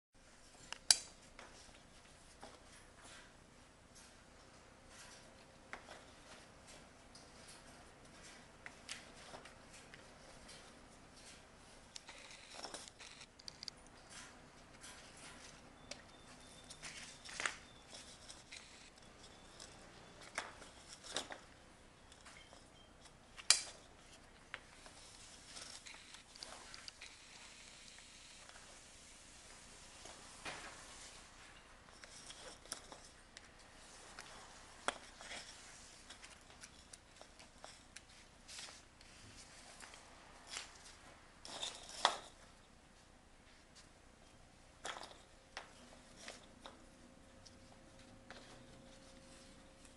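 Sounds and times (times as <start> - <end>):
twine rustling: 0.2 - 49.9.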